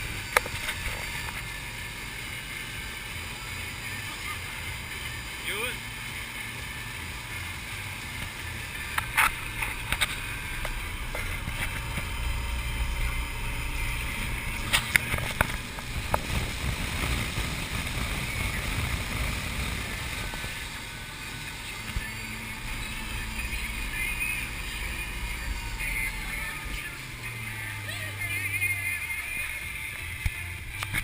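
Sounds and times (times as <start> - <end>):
boat engine rumble: 0.0 - 31.0.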